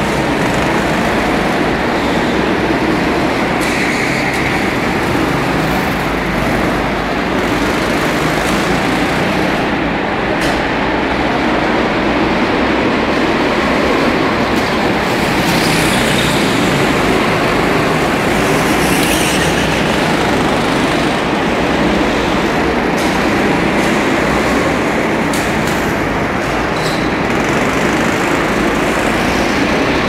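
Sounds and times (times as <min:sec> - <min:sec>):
go-kart engines din: 0:00.0 - 0:30.0.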